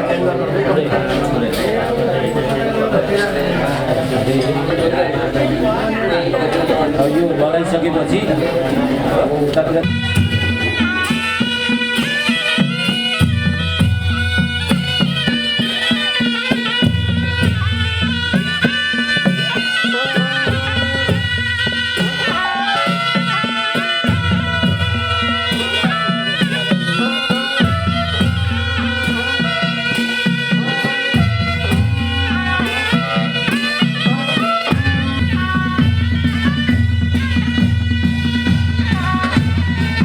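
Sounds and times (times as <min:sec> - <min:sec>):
wind instrument melody: 0:00.0 - 0:40.0.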